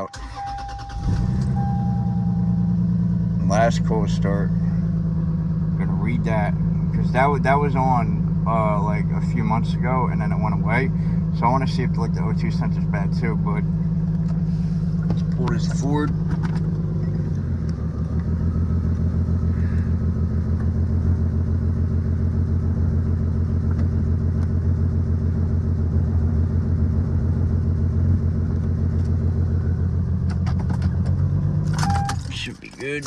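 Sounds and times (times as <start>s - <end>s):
car engine running with pulsing: 0.0s - 33.0s.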